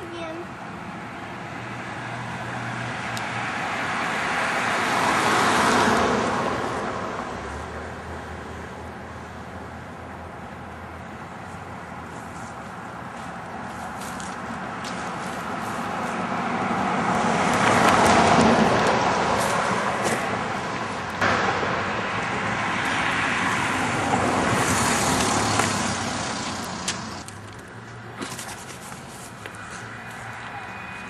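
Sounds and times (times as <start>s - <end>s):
road traffic passing: 0.0s - 31.0s.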